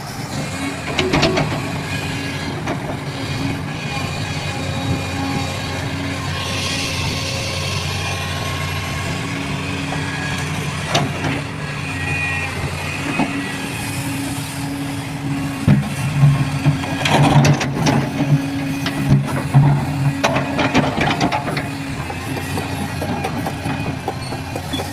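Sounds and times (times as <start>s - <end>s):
heavy machine engine running: 0.0s - 24.9s.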